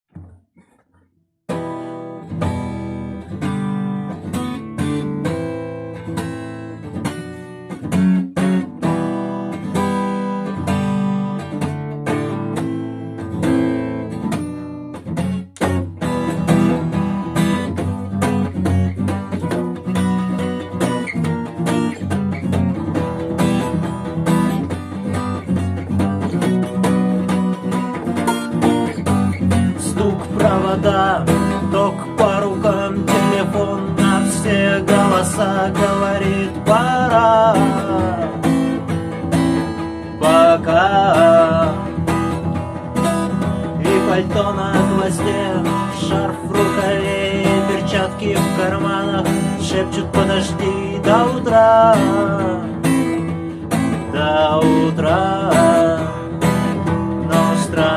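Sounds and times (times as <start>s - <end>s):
acoustic guitar playing: 0.1s - 57.9s.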